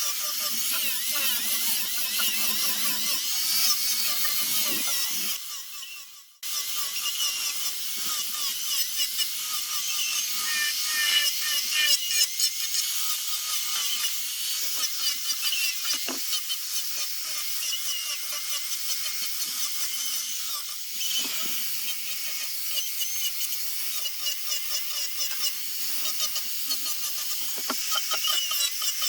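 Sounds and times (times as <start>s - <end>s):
rotary power tool sanding wood: 0.0s - 29.0s.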